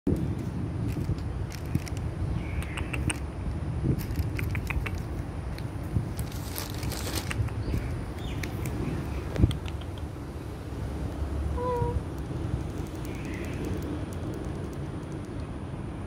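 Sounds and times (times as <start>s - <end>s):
outdoor background rumble: 0.1s - 16.0s.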